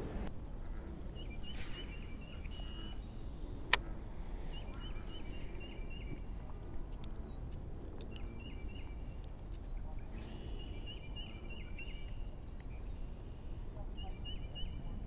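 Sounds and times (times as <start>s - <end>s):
low outdoor rumble: 0.0s - 15.0s
bird chirping: 1.1s - 3.6s, 4.4s - 15.0s.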